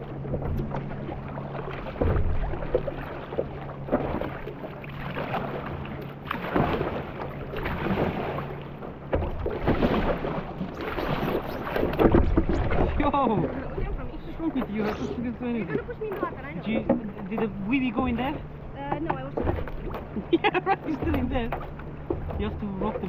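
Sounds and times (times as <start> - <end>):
water sloshing around boat: 0.0 - 23.0.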